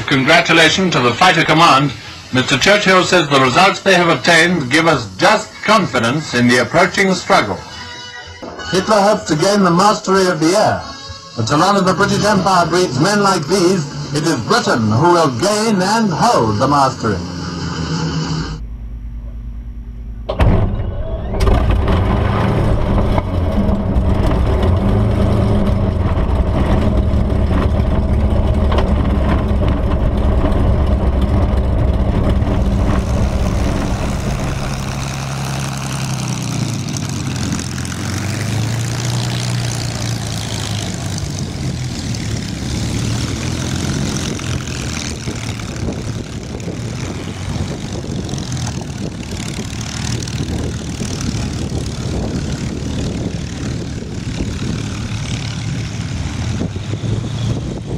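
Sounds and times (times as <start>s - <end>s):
aircraft engine starting and running: 0.0s - 57.9s.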